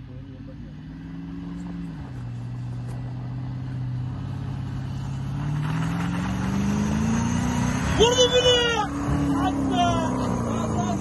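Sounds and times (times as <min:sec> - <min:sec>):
car engine driving through snow: 0:00.6 - 0:11.0.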